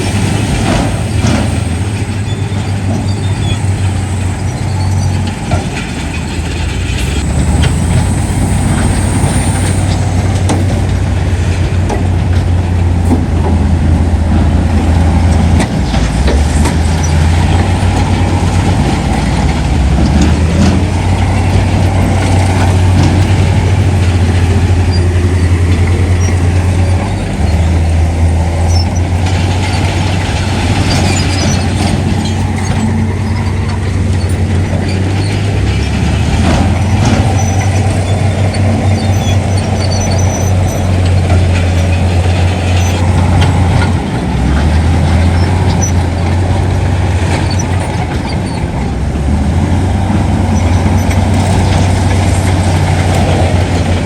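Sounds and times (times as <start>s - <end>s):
diesel machinery engine drone: 0.0s - 54.0s
metal knocks and clanks: 0.0s - 54.0s.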